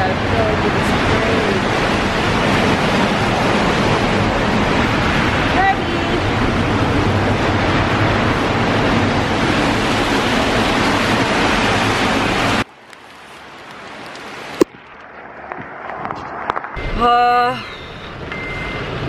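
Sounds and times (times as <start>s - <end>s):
heavy rain: 0.0s - 19.0s
wet traffic noise: 0.0s - 19.0s.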